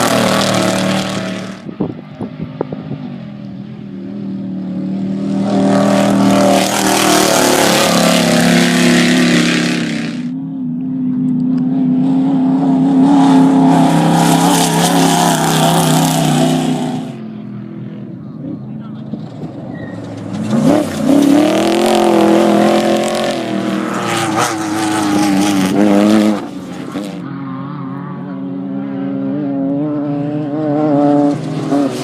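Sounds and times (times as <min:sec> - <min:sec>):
off-road vehicles passing at speed: 0:00.0 - 0:32.0.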